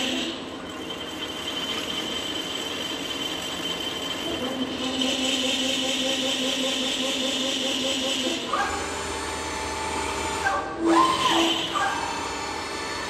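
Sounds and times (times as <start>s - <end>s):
milling machine motor whine: 0.0s - 13.0s.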